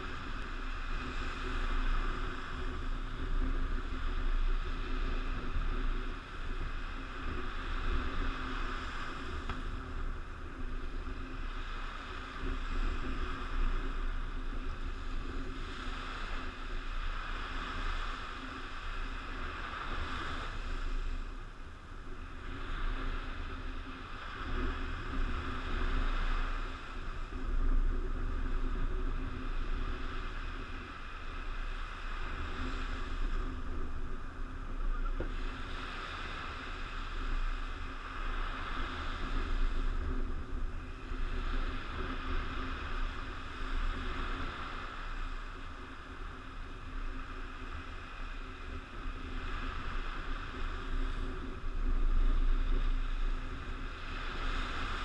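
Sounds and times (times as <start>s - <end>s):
small waves breaking on sand: 0.0s - 55.0s
wind buffeting microphone: 0.0s - 55.0s.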